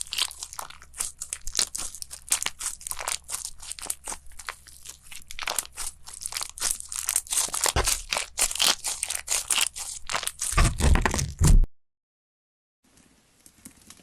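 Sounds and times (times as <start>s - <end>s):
crunchy slime crackling: 0.0s - 11.5s.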